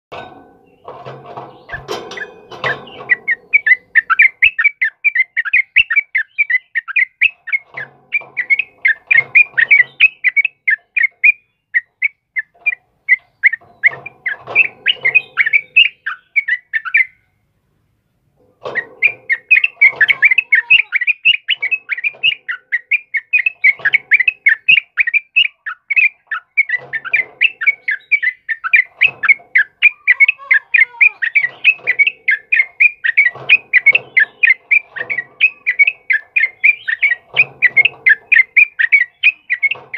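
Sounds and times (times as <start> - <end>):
birds singing chattering notes: 0.1 - 39.9.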